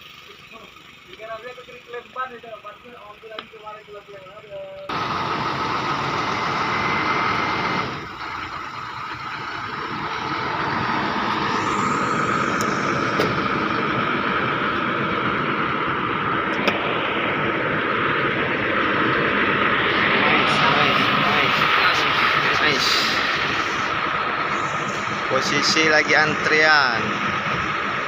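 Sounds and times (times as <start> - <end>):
heavy truck engine running: 0.0 - 28.0
steady high whine: 0.0 - 28.0.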